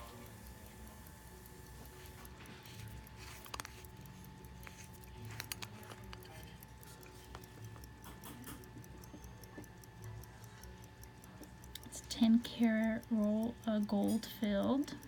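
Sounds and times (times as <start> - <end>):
pocket watch clicks and clinks: 0.1 - 15.0.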